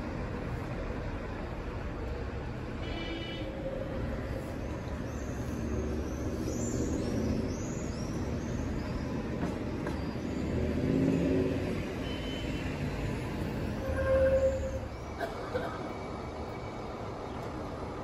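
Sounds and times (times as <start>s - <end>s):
street traffic rumble: 0.0s - 18.0s
tram moving along track: 0.0s - 18.0s.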